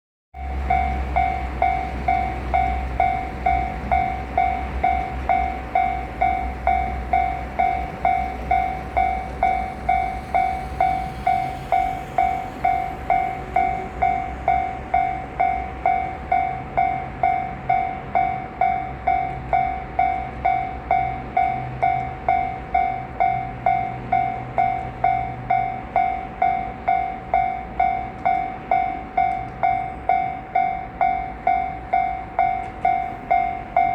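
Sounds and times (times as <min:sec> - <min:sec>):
freight train rumble: 0:00.4 - 0:33.9
level crossing warning bell: 0:00.4 - 0:33.9.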